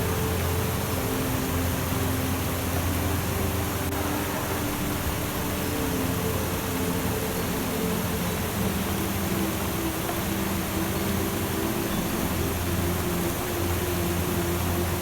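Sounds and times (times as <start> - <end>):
ambient music low notes: 0.0 - 15.0
running water rushing: 0.0 - 15.0.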